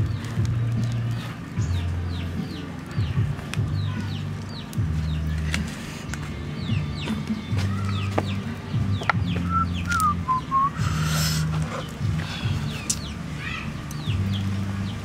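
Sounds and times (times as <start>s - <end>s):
birds chirping: 0.0s - 15.0s
low background music: 0.0s - 15.0s.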